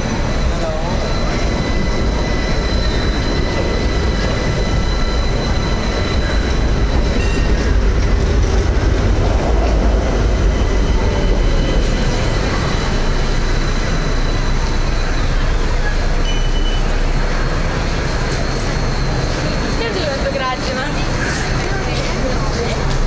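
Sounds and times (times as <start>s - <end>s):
rail vehicle rumbling: 0.0s - 23.0s.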